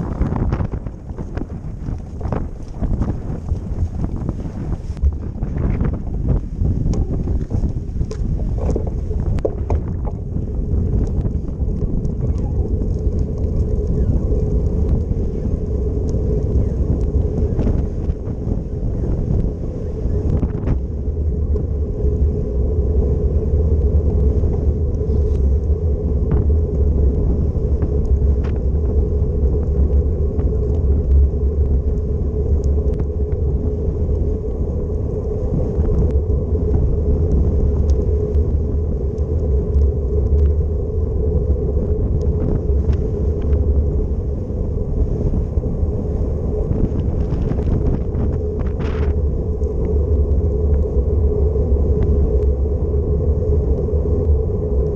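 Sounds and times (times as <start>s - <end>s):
steady hum: 0.0s - 54.9s
wind buffeting microphone: 0.0s - 54.9s.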